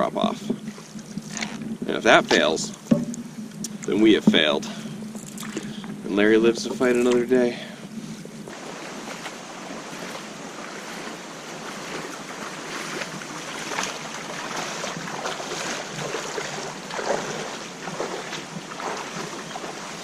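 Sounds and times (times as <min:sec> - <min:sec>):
splashing footsteps in water: 0:00.6 - 0:04.5, 0:05.1 - 0:05.9, 0:08.4 - 0:20.0.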